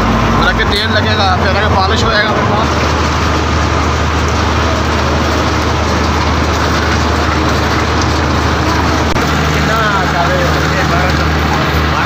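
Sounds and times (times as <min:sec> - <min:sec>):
machine hum: 0:00.0 - 0:12.0
roller conveyor rattling: 0:00.0 - 0:12.0.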